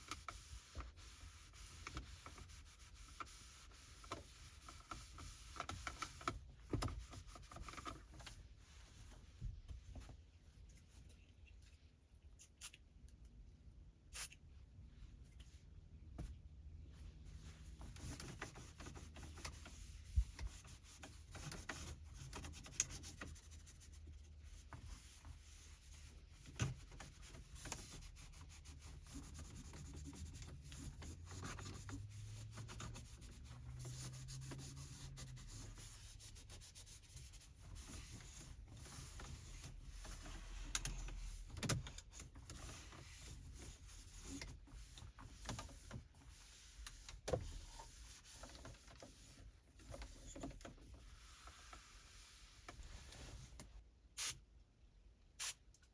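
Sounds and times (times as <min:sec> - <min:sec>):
cloth wiping surfaces: 0:00.0 - 0:11.0, 0:14.2 - 0:53.6.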